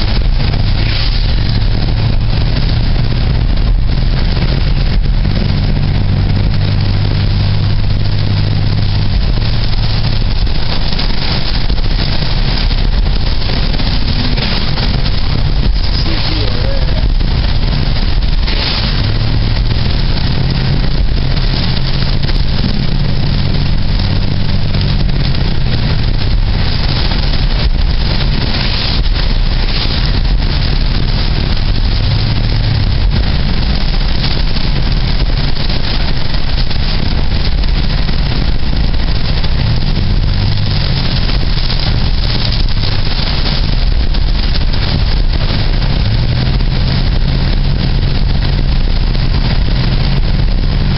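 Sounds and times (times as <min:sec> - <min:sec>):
car engine hum: 0:00.0 - 0:50.9
road and wind noise: 0:00.0 - 0:50.9.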